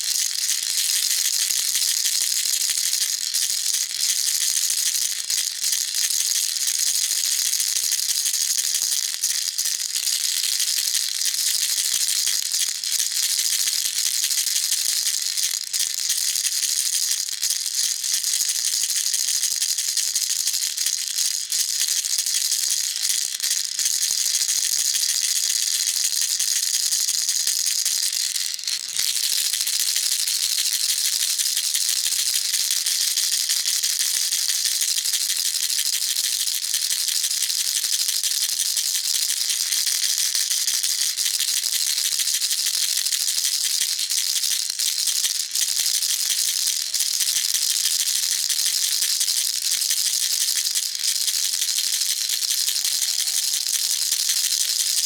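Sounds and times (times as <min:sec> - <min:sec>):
baby rattle shaking: 0:00.0 - 0:55.0.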